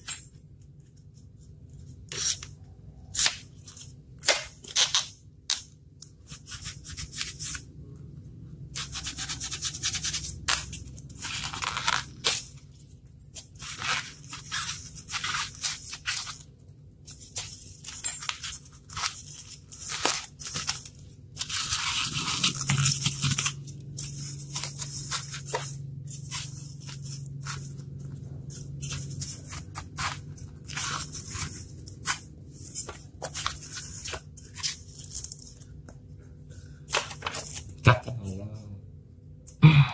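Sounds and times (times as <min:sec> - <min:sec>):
knife scraping styrofoam: 0:02.0 - 0:07.7, 0:08.7 - 0:35.7.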